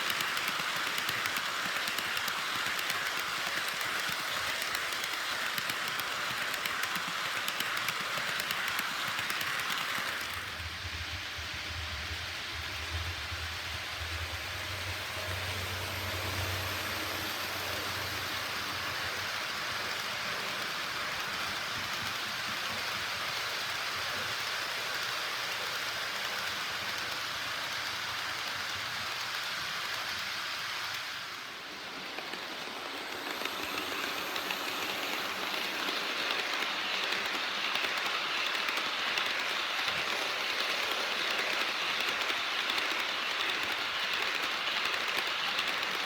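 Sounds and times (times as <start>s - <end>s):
model train wheels rattling: 0.0s - 46.0s.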